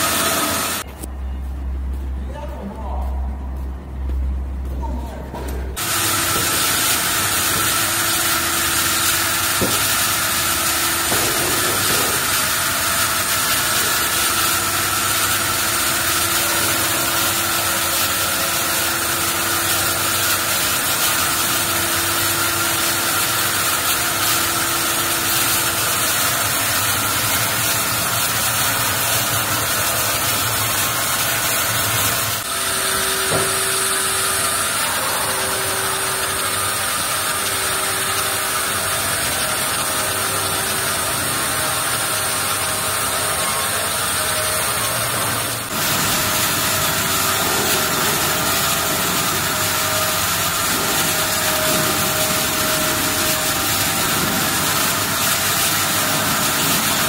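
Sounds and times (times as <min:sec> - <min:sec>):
band saw cutting with whine: 0:00.0 - 0:00.9, 0:05.8 - 0:57.0.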